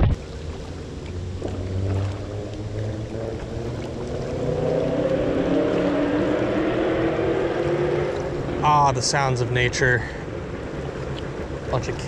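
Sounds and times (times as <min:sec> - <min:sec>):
car engines revving: 0:00.0 - 0:11.6.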